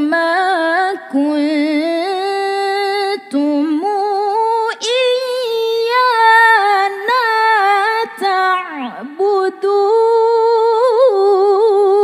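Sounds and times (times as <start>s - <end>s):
woman reciting melodically: 0.0s - 12.0s.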